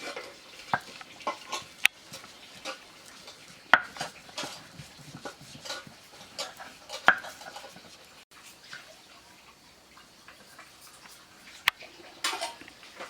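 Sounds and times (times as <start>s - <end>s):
dishes and utensils clinking: 0.0s - 9.0s, 10.3s - 13.0s.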